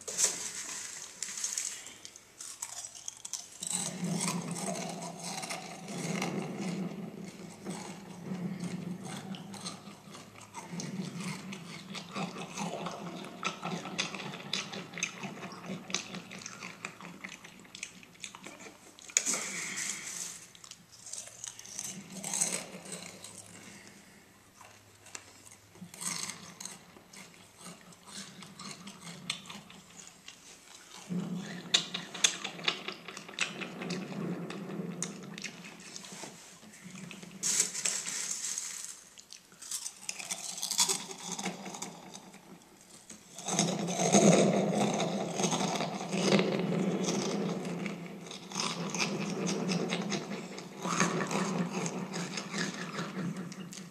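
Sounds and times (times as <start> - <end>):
cereal crunching while chewed: 0.0 - 53.9.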